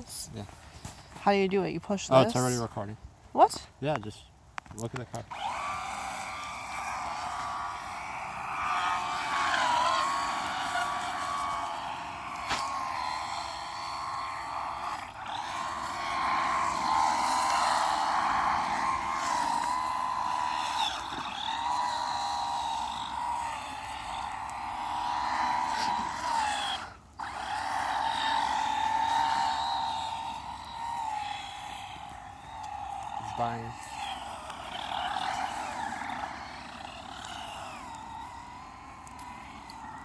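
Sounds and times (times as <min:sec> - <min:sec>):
rc car electric motor whining: 0:05.3 - 0:40.0.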